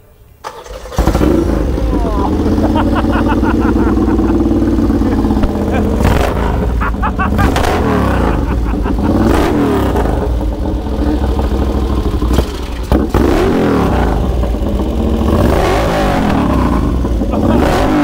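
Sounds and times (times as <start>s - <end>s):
engine crack: 0.4s - 18.0s
motorcycle engine revving: 0.4s - 18.0s.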